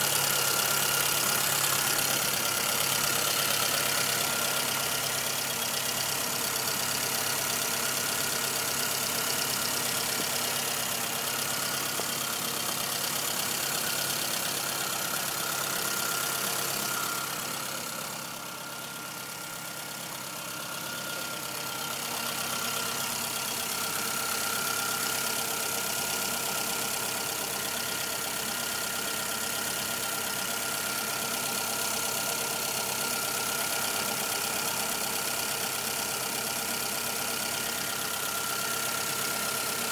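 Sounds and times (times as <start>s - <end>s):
car engine idling with ticking: 0.0s - 39.9s.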